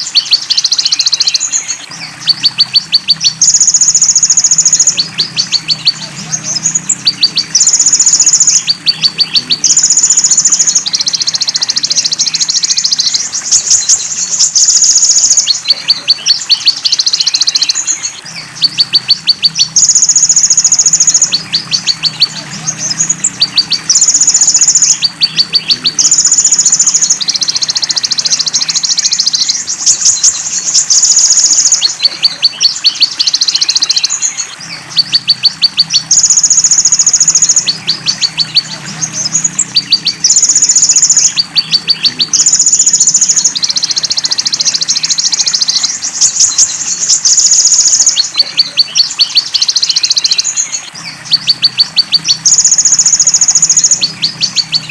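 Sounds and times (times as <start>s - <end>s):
high buzzy bird trills: 0.0s - 54.9s.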